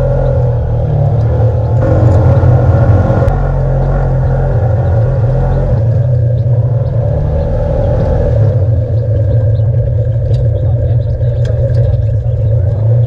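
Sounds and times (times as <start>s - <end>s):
off-road vehicle engine droning: 0.0s - 13.0s.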